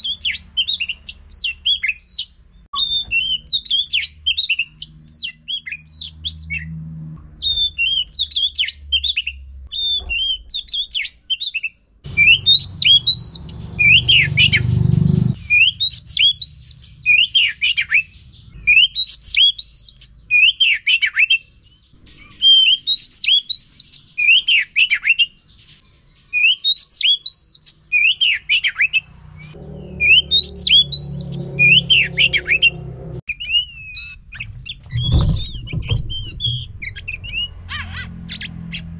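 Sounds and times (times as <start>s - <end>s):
bird whistled song: 0.0s - 38.9s.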